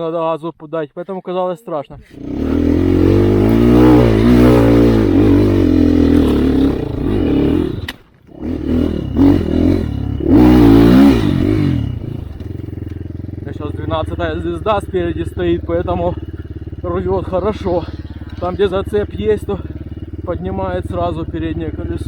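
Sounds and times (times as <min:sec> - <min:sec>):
dirt bike engine revving: 0:02.1 - 0:22.0.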